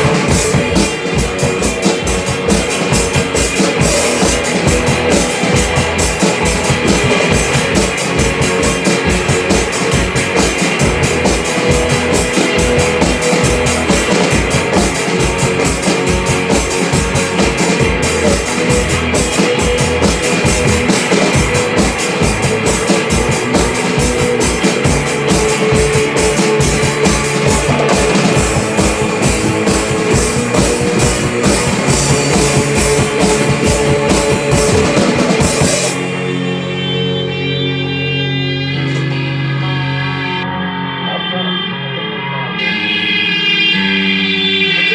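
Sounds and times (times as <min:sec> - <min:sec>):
drum kit fast beat: 0:00.0 - 0:36.3
rock band playing: 0:00.0 - 0:41.0.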